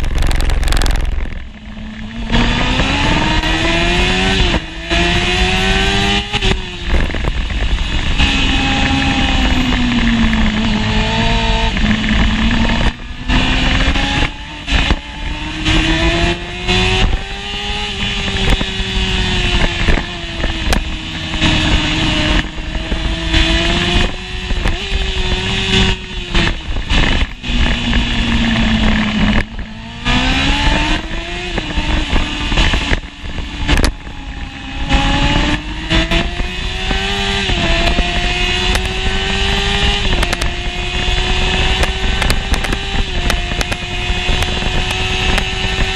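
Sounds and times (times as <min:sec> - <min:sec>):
motorcycle engine revving: 0:00.0 - 0:45.9
wind rush on microphone: 0:00.0 - 0:45.9.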